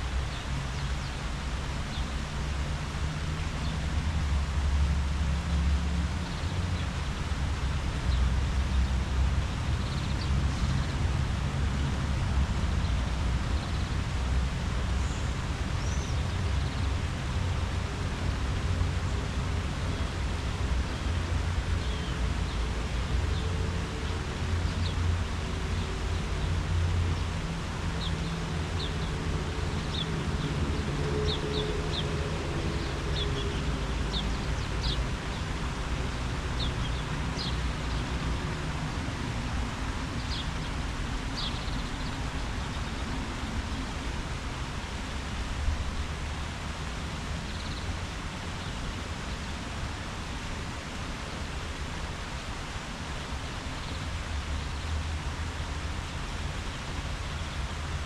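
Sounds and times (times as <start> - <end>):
leaves rustling in wind: 0.0 - 58.0.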